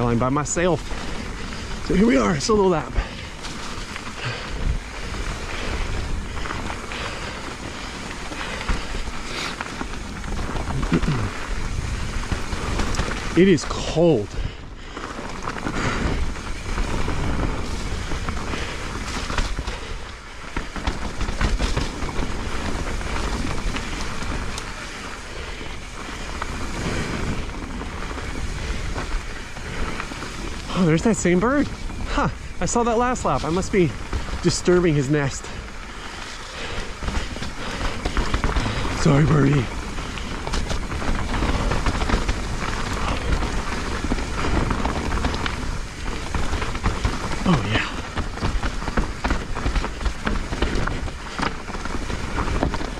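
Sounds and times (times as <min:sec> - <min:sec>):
bike clicks and rattles: 0:00.0 - 0:52.9
bike tyres rolling through mud: 0:00.0 - 0:52.9
wind rumbling on microphone: 0:00.0 - 0:52.9.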